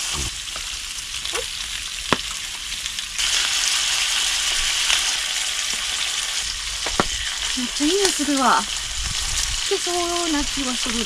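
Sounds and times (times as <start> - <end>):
octopus sizzling in oil: 0.0 - 11.0.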